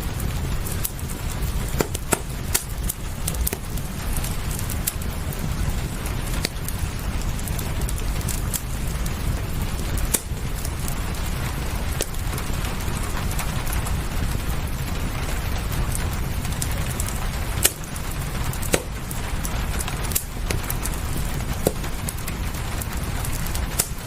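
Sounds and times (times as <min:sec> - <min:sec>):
low rumble of rain: 0:00.0 - 0:24.0
sharp pops of fire: 0:00.0 - 0:24.0
wood fire crackling: 0:00.0 - 0:24.0.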